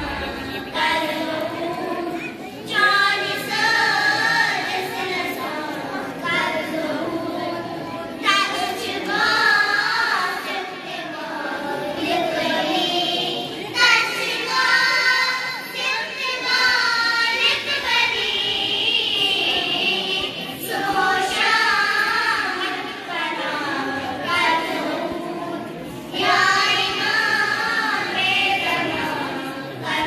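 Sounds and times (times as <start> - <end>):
girls singing together: 0.0 - 30.0.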